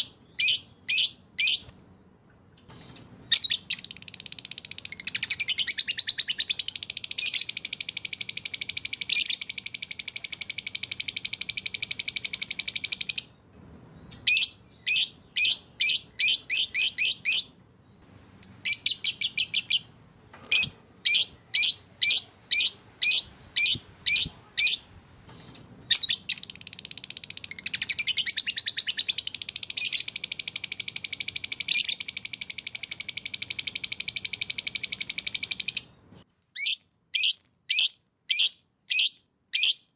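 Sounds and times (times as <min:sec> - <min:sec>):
birds singing high trills: 0:00.0 - 0:36.0.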